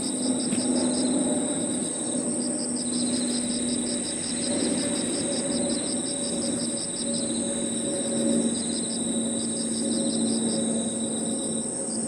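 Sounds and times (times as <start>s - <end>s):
crickets chirping: 0.0s - 12.0s
insects trilling: 0.0s - 12.0s.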